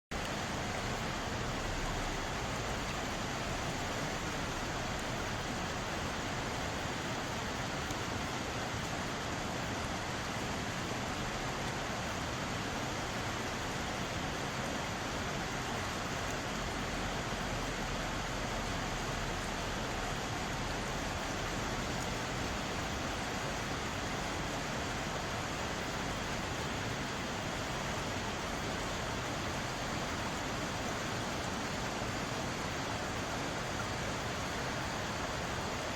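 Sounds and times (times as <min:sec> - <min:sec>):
stream water splashing over rocks: 0:00.1 - 0:35.9.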